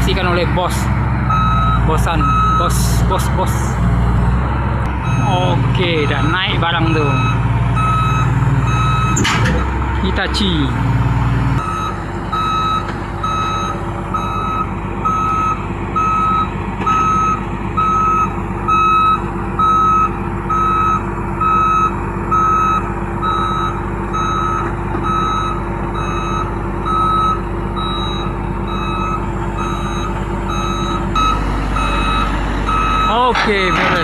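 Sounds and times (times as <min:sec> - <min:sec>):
diesel engine running: 0:00.0 - 0:34.0
excavator travel alarm beeping: 0:01.3 - 0:02.9, 0:05.0 - 0:09.4, 0:11.6 - 0:34.0.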